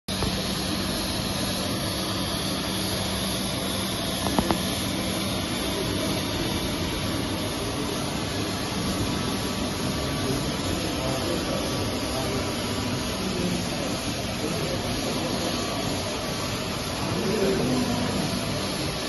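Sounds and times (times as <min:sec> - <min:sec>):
floor scrubber whirring: 0:00.1 - 0:19.0.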